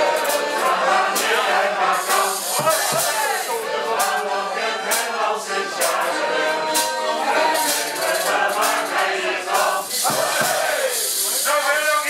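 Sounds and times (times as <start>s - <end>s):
accordion playing a tune: 0.0s - 12.0s
group of voices singing: 0.0s - 12.0s.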